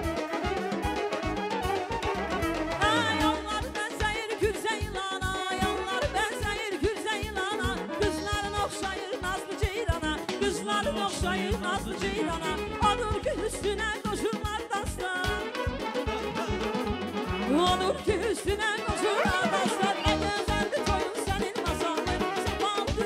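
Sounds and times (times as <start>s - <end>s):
steady drum beat: 0.0s - 23.0s.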